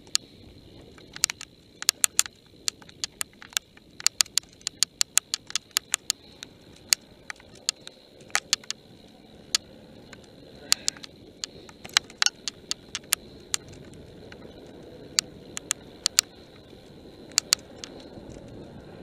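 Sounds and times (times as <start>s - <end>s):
bike rattling over bumps: 0.0s - 19.0s
tyres and wind rumble: 0.0s - 19.0s.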